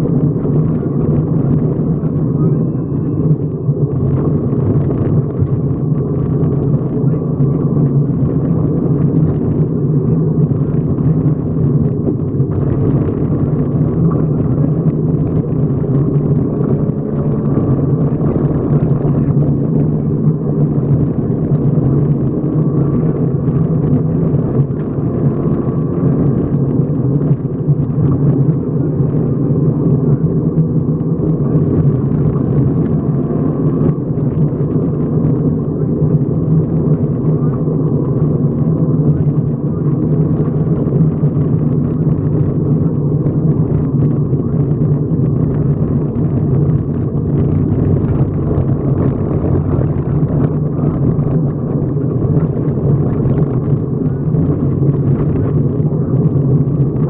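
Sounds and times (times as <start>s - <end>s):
rally car engine at high revs: 0.0s - 57.0s.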